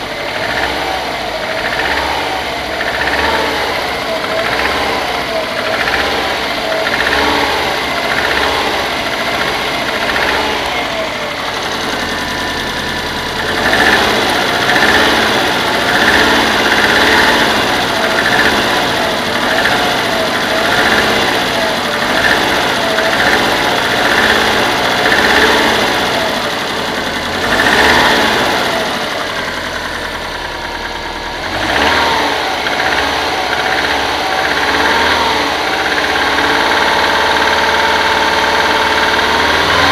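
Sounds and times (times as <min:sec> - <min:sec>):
car engine revving: 0:00.0 - 0:39.9
engine knocking: 0:00.0 - 0:39.9.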